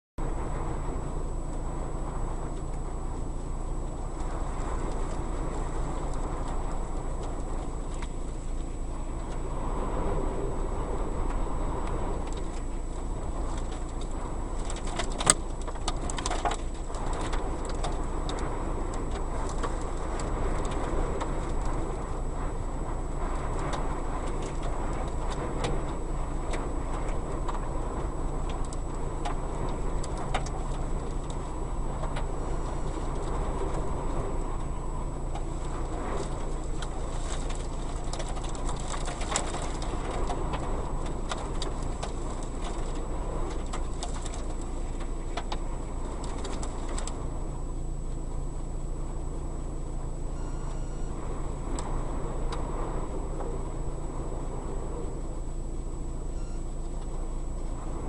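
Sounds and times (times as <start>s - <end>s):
wind rumbling on microphone: 0.2s - 58.0s.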